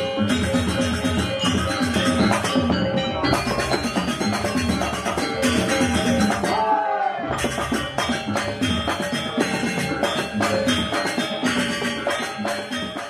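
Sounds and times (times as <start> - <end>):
drums: 0.0 - 13.0
metallophones ringing: 0.0 - 13.0.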